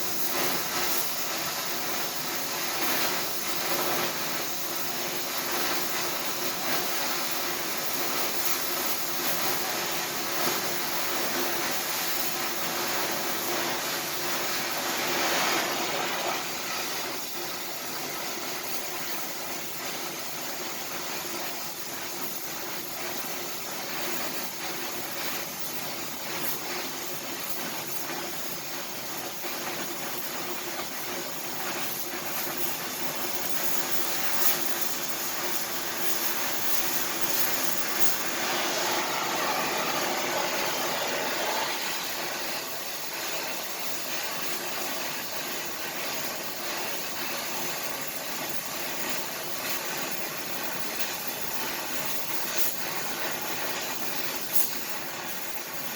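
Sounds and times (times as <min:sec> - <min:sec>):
welding arc crackling and hissing: 0:00.0 - 0:55.9.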